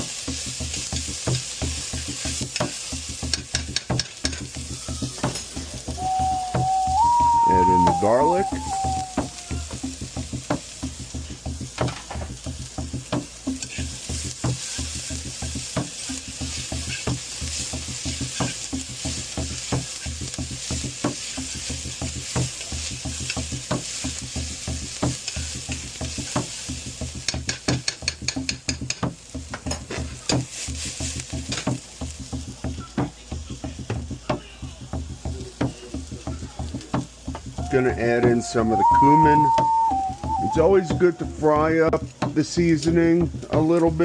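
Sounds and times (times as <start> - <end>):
utensil stirring against pan: 0.0 - 6.9, 8.0 - 39.0
onion and garlic sizzling in oil: 0.0 - 44.0.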